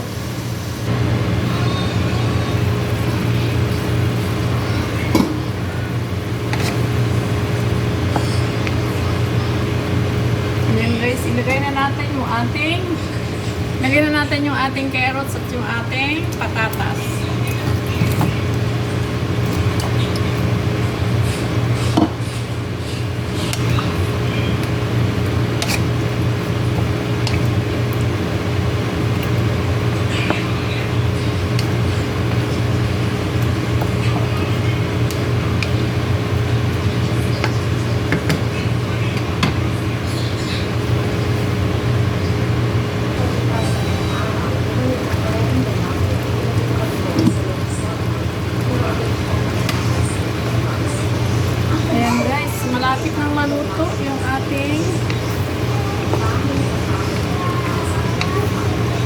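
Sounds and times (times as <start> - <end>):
low mechanical hum: 0.0 - 59.0
stew simmering and bubbling: 0.0 - 59.0.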